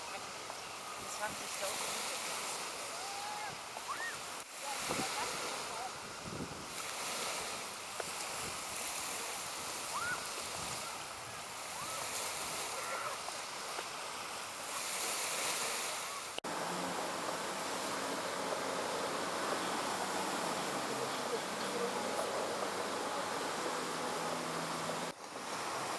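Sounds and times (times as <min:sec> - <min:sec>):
small waves washing onto beach: 0:00.0 - 0:25.9.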